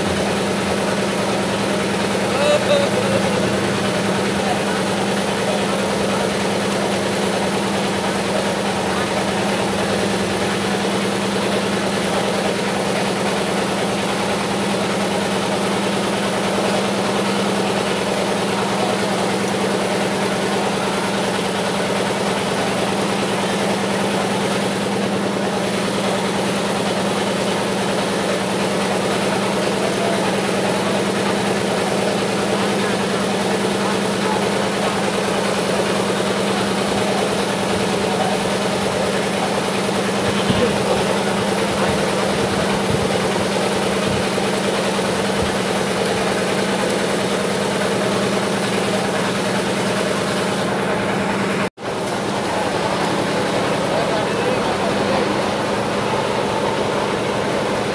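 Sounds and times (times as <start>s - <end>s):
crowd chattering: 0.0s - 57.9s
steady engine-like hum: 0.0s - 57.9s.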